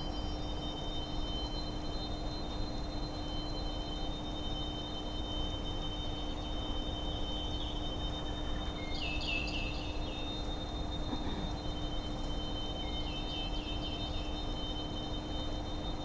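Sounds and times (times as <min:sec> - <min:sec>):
steady high electronic tones: 0:00.0 - 0:16.0.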